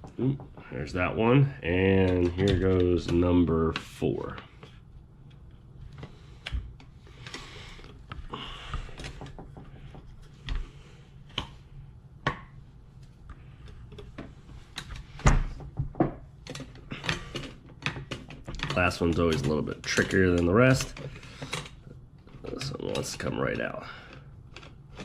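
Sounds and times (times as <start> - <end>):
small clicks taps and rustling: 1.7 - 10.7, 12.2 - 25.0.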